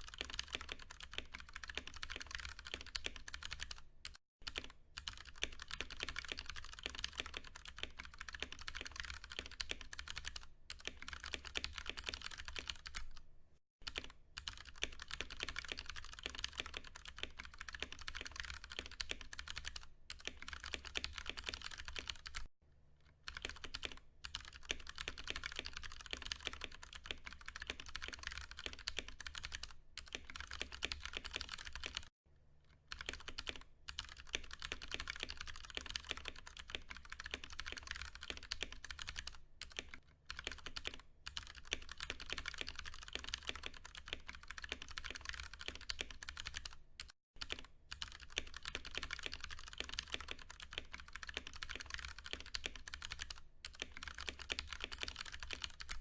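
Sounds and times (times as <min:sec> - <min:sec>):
mechanical keyboard typing: 0:00.0 - 0:13.2, 0:13.8 - 0:22.5, 0:23.3 - 0:32.1, 0:32.9 - 0:56.0.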